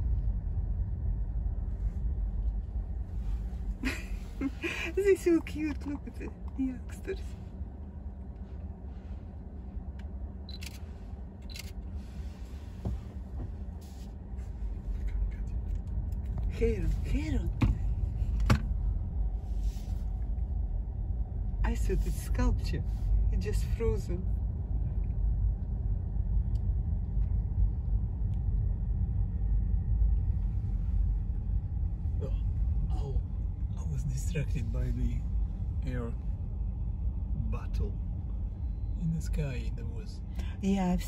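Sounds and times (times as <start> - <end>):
car driving rumble from inside: 0.0 - 41.0.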